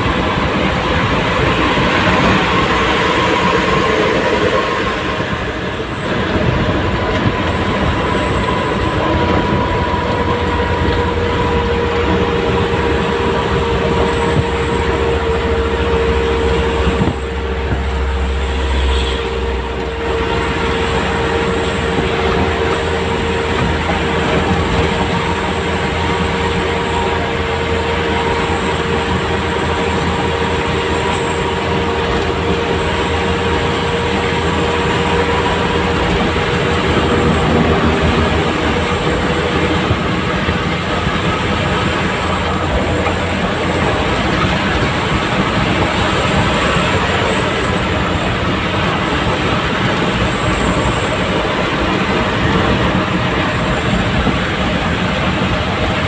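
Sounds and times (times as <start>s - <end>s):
diesel engine and road noise: 0.0s - 56.0s
steady whine: 0.0s - 56.0s.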